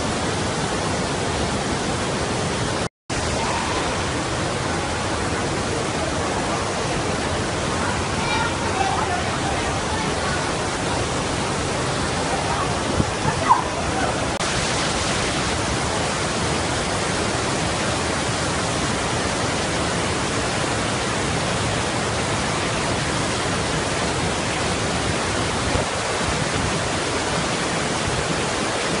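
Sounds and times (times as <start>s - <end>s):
river roaring over rapids: 0.0s - 29.0s.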